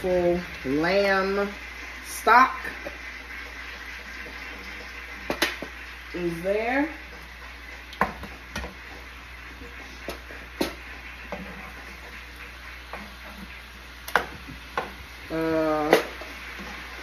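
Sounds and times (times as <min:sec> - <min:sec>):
utensil scraping a frying pan: 0:00.7 - 0:17.0.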